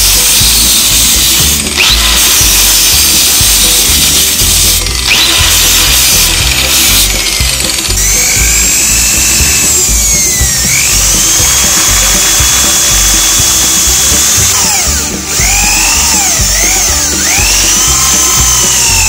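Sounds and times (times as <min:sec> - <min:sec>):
background music: 0:00.0 - 0:19.0
electric drill whine: 0:00.0 - 0:19.0.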